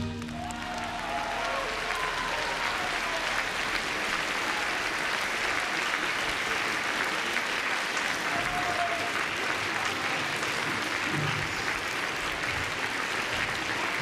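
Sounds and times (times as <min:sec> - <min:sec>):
large audience applauding: 0:00.0 - 0:14.0.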